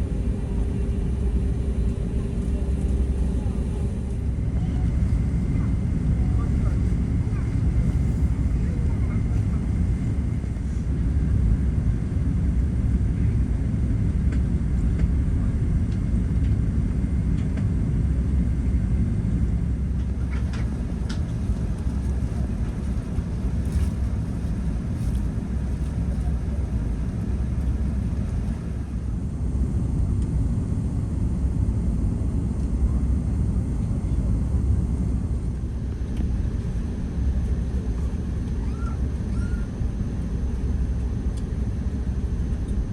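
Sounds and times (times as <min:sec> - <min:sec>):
low rumble in aircraft cabin: 0:00.0 - 0:42.9.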